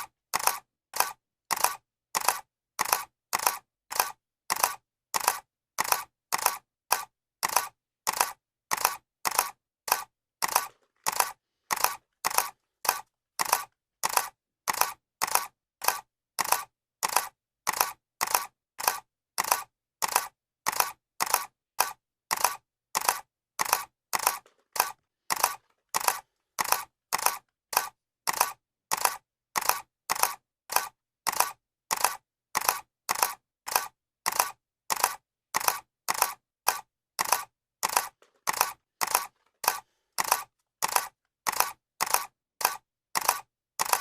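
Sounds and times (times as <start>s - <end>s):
camera shutter clicking: 0.0s - 44.0s.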